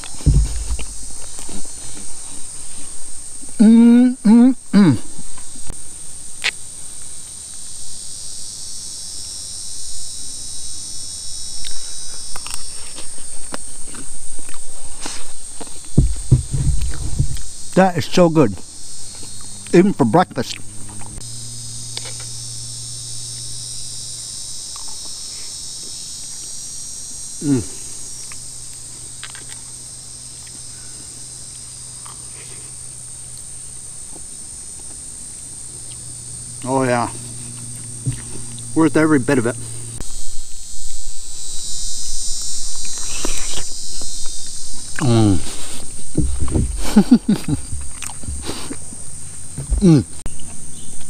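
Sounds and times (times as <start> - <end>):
insects droning: 0.0 - 51.0.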